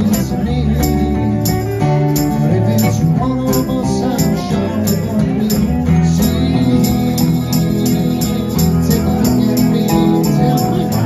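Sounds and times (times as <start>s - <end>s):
electric bass: 0.0s - 11.0s
man singing: 0.0s - 11.0s
strummed acoustic guitars: 0.0s - 11.0s.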